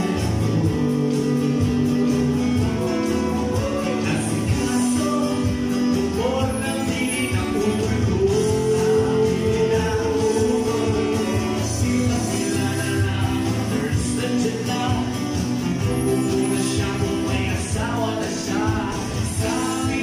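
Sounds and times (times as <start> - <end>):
acoustic guitar: 0.0 - 20.0
keyboard: 0.0 - 20.0
men singing: 0.0 - 20.0.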